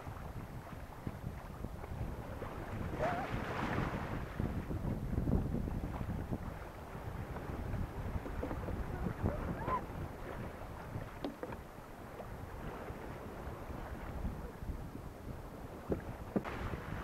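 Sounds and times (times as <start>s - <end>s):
water rushing along a hull: 0.0s - 17.0s
water slapping against hull: 0.0s - 17.0s
wind buffeting microphone: 0.0s - 17.0s.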